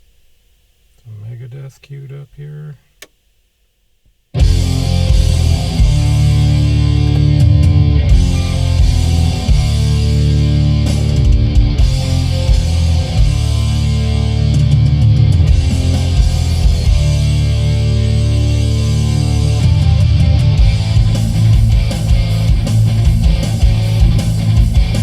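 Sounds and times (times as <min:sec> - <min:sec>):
heavy metal music: 0:04.4 - 0:25.0.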